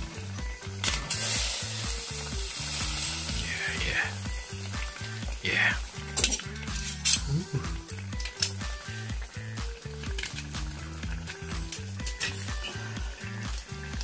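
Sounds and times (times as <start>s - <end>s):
background music with steady beat: 0.0s - 14.0s
juices sizzling and bubbling: 0.0s - 14.0s.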